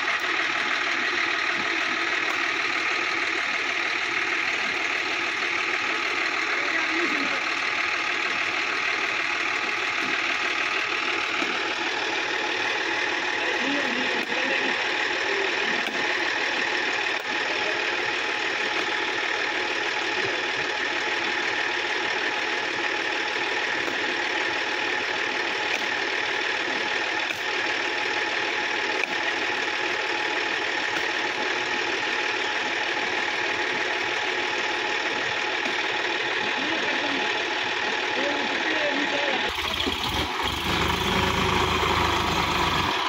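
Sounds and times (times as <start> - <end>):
tractor diesel engine idling: 0.0 - 43.0.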